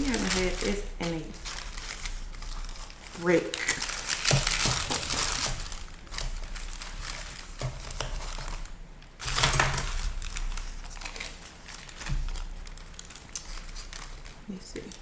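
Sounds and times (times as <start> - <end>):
food wrapping crinkling: 0.0 - 15.0.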